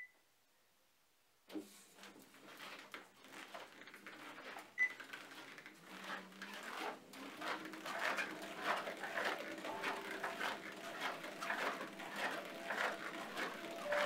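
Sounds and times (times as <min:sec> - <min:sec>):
objects being handled: 0:01.6 - 0:14.0.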